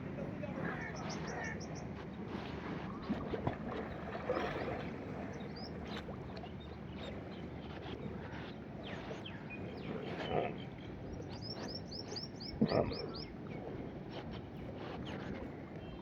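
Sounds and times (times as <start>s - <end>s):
water splashing and sloshing: 1.3s - 16.0s.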